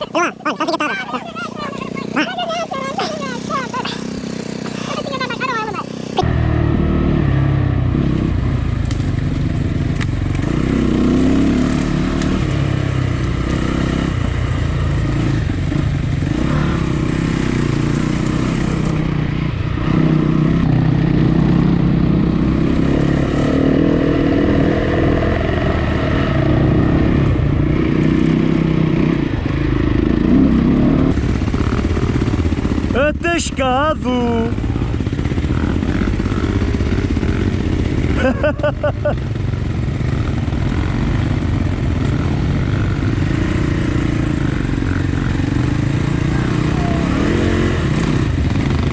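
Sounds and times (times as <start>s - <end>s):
dirt bike engine revving: 0.0s - 9.4s, 10.1s - 48.9s.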